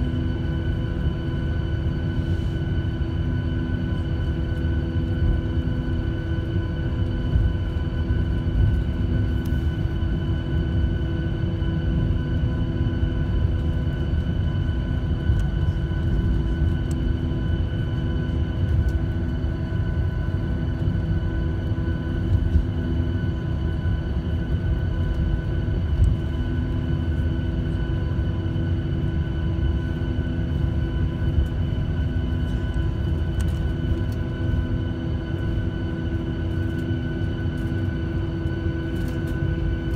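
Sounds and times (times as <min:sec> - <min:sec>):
airplane engine hum: 0:00.0 - 0:39.9.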